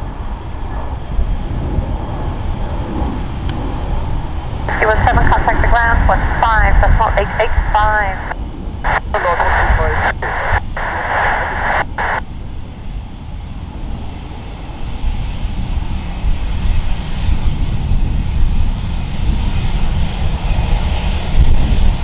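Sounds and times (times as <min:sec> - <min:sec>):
jet engines taxiing: 0:00.0 - 0:22.0.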